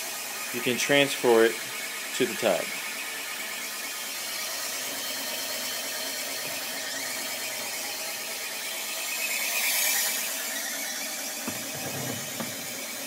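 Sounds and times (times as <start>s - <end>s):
espresso machine pump whine: 0.0s - 13.0s.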